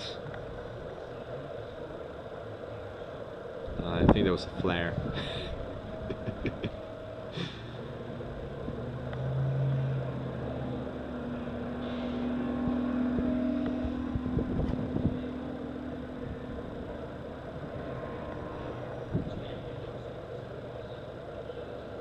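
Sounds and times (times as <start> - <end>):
deep hum: 0.0 - 22.0
engine rumble: 0.0 - 22.0
higher hum: 0.0 - 22.0.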